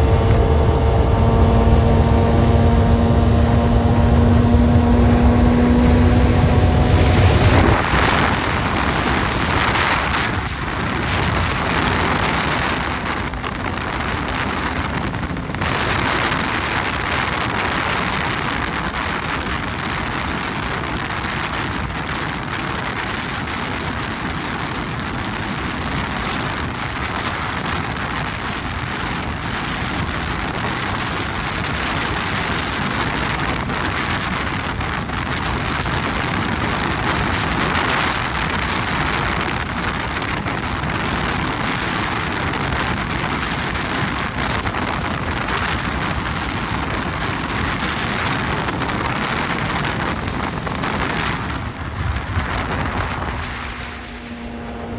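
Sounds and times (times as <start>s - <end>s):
road noise: 0.0s - 54.9s
wind rushing on microphone: 0.0s - 54.9s.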